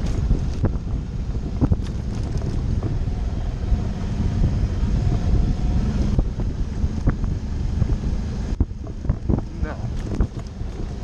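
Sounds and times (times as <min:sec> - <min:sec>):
motorcycle engine rumble: 0:00.0 - 0:11.0
wind buffeting on microphone: 0:00.0 - 0:11.0.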